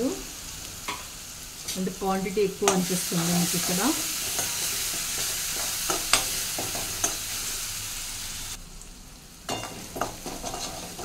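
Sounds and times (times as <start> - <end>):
chilies sizzling in hot oil: 0.0 - 11.0.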